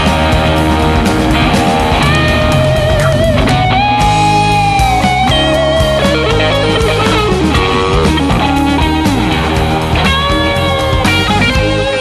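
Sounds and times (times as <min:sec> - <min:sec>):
bass guitar: 0:00.0 - 0:12.0
drums: 0:00.0 - 0:12.0
lead guitar bending notes: 0:00.0 - 0:12.0.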